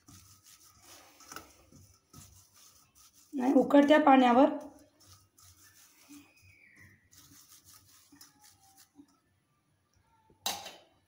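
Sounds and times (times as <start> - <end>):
cotton scrubbing on metal plate: 0.0 - 9.2.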